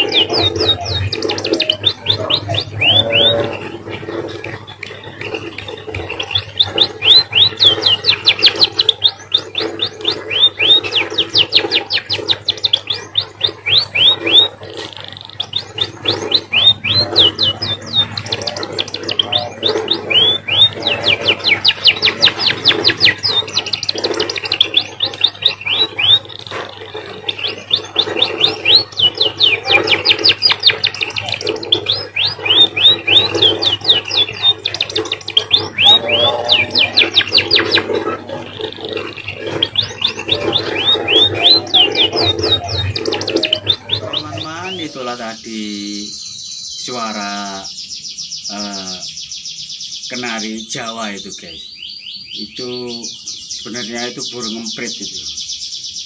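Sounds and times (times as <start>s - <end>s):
finch singing trills: 0.0s - 56.0s.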